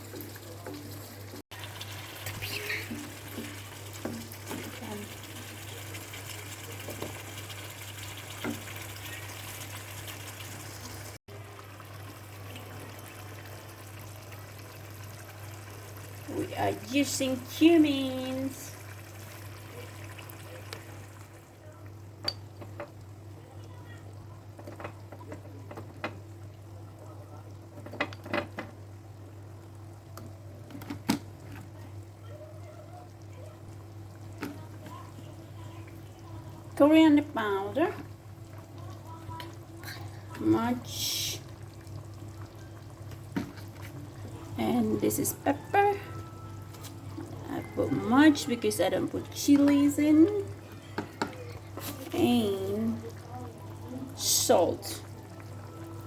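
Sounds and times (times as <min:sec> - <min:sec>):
chicken sizzling in a pan: 0:00.0 - 0:21.4, 0:31.7 - 0:56.0.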